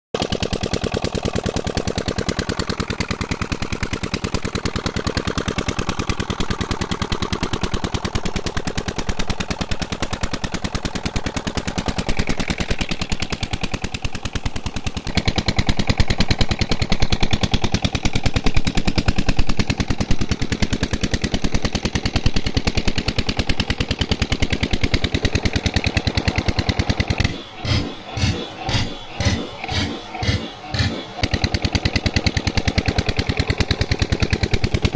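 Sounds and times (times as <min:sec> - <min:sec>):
diesel water pump engine running: 0:00.2 - 0:34.9.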